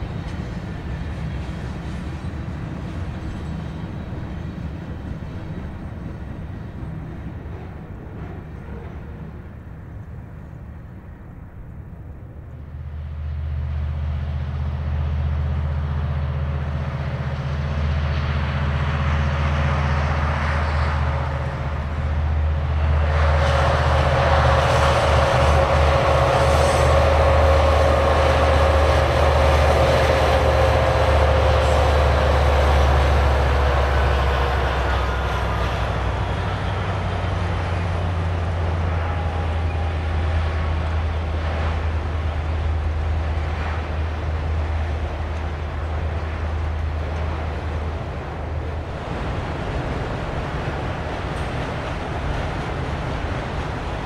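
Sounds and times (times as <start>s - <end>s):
diesel locomotive engine running: 0.0s - 54.0s
train rolling past: 0.0s - 54.0s.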